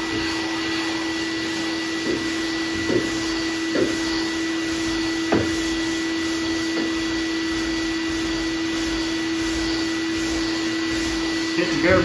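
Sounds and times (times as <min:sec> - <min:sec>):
shop vacuum running: 0:00.0 - 0:12.0.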